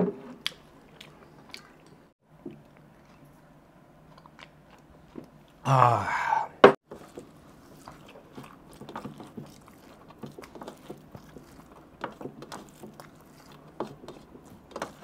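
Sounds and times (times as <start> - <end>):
person chewing with mouth smacks: 0.4 - 5.6, 6.9 - 15.0.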